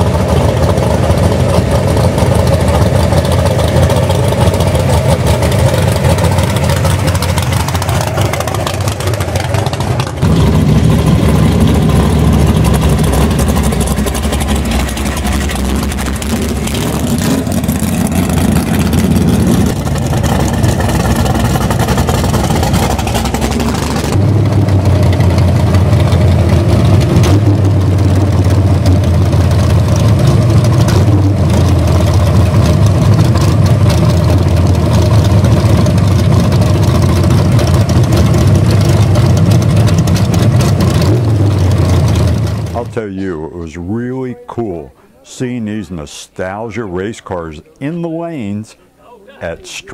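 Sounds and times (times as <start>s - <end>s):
race car engines revving: 0.0s - 48.8s.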